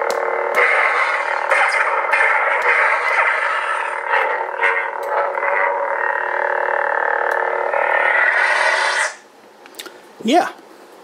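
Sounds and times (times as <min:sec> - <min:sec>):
lightsaber electric buzz: 0:00.0 - 0:09.3.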